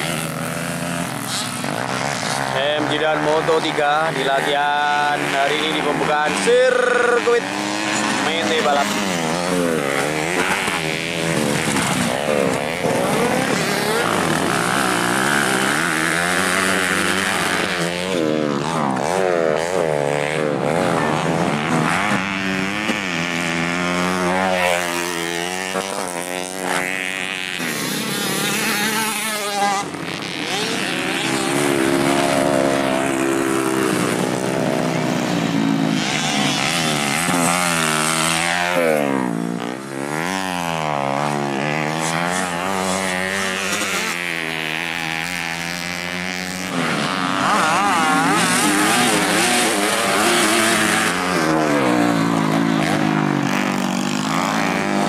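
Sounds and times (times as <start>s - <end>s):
dirt bike engines running hard: 0.0s - 55.0s.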